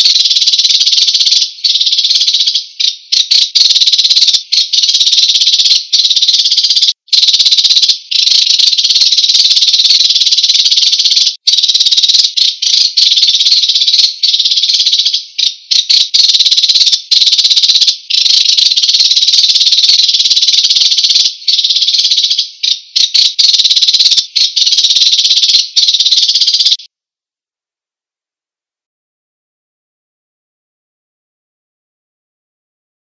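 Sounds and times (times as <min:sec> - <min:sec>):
sparrow trilling: 0:00.0 - 0:26.9.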